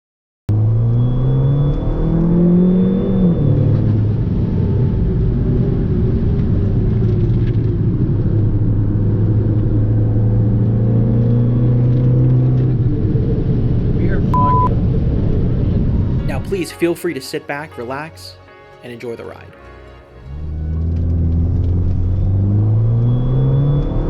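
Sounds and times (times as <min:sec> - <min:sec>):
car engine accelerating: 0:00.5 - 0:16.7, 0:20.0 - 0:24.0.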